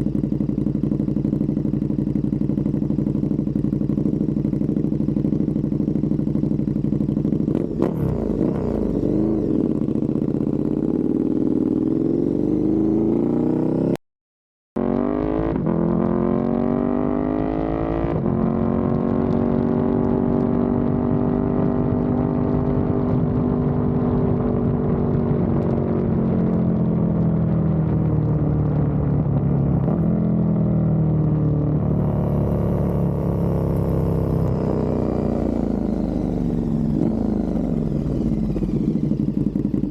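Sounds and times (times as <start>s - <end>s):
motorcycle engine revving: 0.0s - 14.0s, 14.8s - 39.9s.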